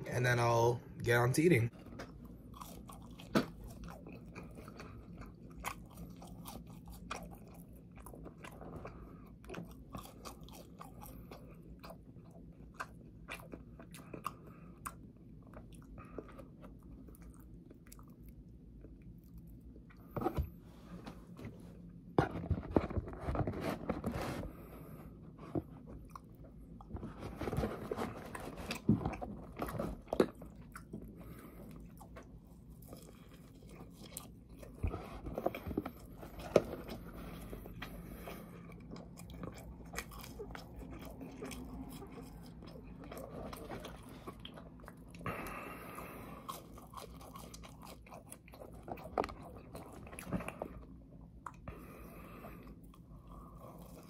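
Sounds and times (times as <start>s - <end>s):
chewing fries: 1.7s - 20.4s, 22.3s - 54.0s.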